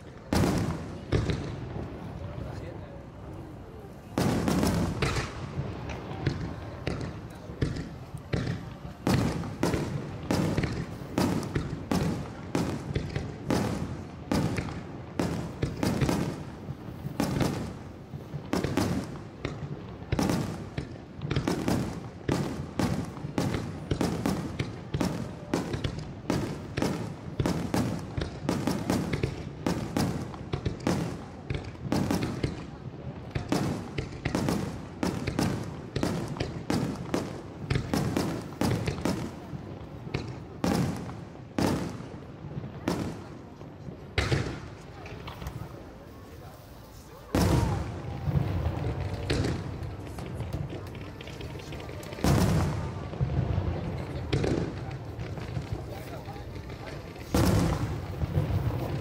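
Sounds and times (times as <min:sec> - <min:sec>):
fireworks booming: 0:00.0 - 0:59.0.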